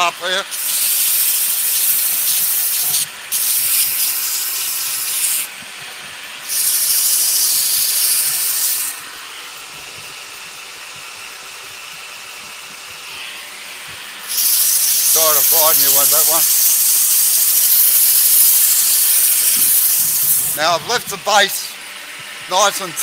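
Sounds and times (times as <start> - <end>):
sandpaper hissing on spinning wood: 0.0 - 23.0.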